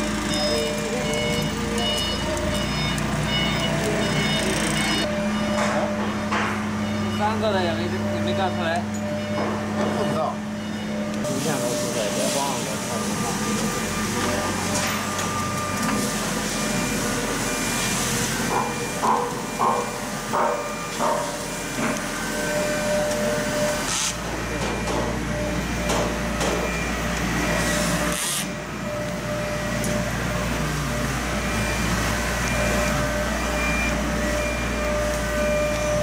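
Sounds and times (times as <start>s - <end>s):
deeper machine hum: 0.0s - 36.0s.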